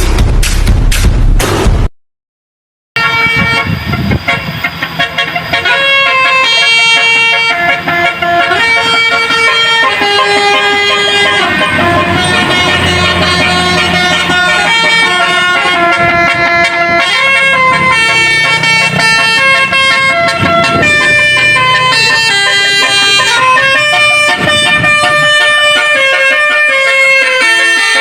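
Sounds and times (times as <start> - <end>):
musical truck horn playing a tune: 3.0 - 28.0.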